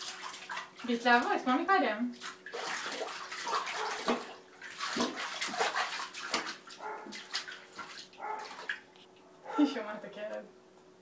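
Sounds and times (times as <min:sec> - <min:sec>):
baby splashing water in a tub: 0:00.0 - 0:08.9.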